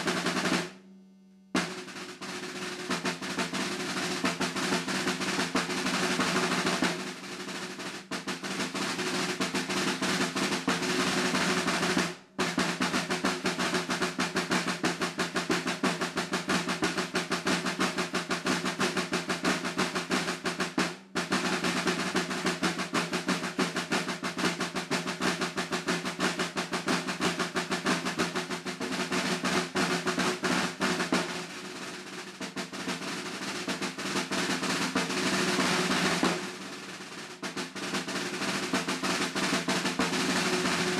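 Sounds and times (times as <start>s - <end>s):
snare drum rolls: 0.0s - 0.9s, 1.5s - 40.9s.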